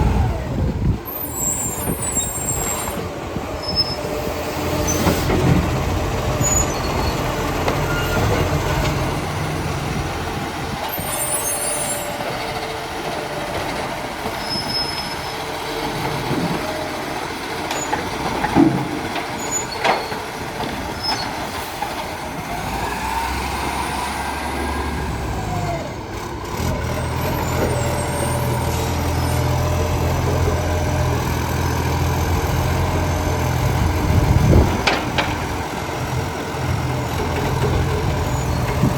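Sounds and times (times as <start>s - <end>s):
garbage truck diesel engine: 0.0s - 38.9s.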